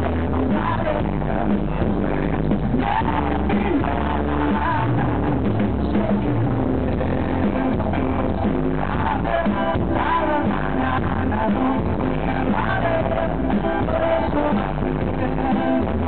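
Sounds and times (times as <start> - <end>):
bass guitar: 0.0 - 16.0
drums: 0.0 - 16.0
electric guitar: 0.0 - 16.0
man singing into a microphone: 0.0 - 16.0.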